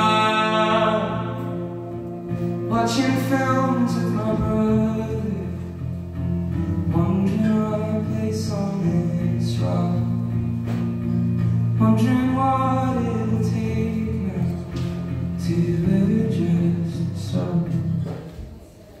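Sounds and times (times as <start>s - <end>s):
man singing: 0.0s - 5.8s, 6.8s - 10.4s, 11.7s - 18.3s
band holding sustained chords: 0.0s - 17.8s
acoustic guitar: 0.0s - 19.0s.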